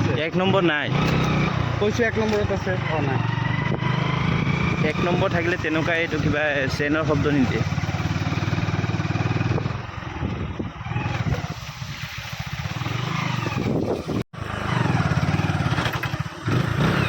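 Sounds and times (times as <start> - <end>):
motorcycle engine running: 0.0 - 11.5, 12.6 - 17.0.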